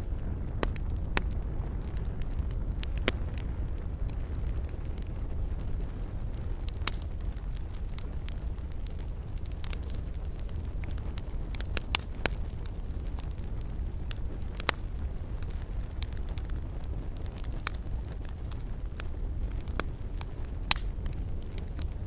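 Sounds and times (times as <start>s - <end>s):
fire crackling pops and snaps: 0.0s - 22.0s
low rumble of flames: 0.0s - 22.0s.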